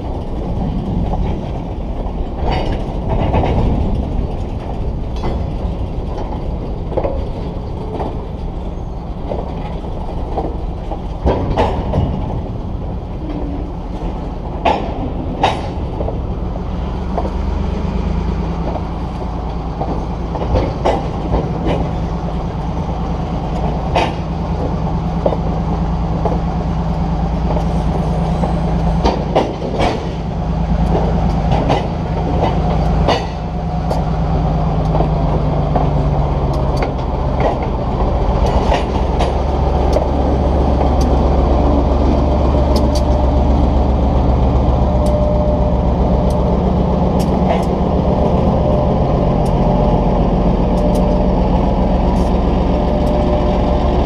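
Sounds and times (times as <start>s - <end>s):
diesel locomotive drone: 0.0s - 54.0s
freight car wheels clicking on rail joints: 0.0s - 54.0s.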